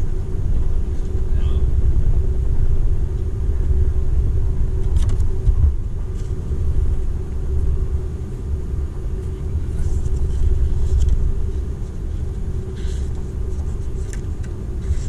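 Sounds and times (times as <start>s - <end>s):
steady droning tone: 0.0s - 15.0s.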